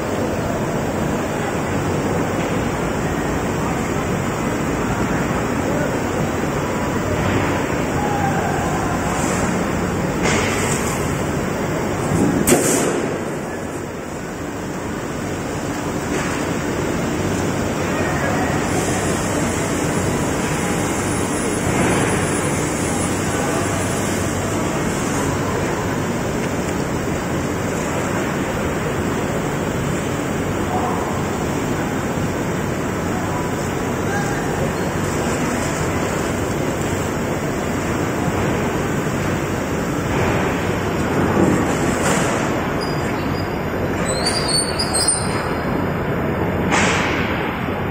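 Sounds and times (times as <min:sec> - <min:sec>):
production line machinery rushing: 0:00.0 - 0:42.8.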